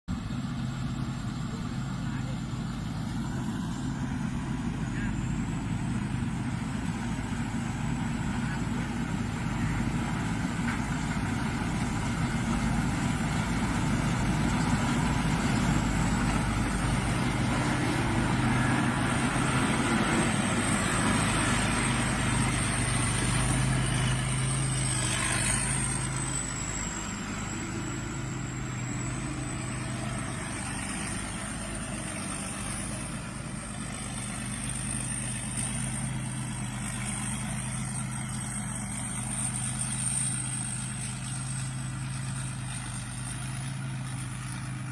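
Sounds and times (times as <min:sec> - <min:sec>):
diesel engine running: 0:00.1 - 0:44.9.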